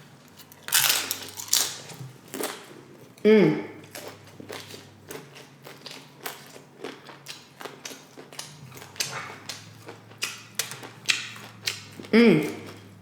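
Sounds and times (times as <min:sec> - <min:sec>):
chewing crunchy chips: 0:00.0 - 0:03.2, 0:03.8 - 0:13.0.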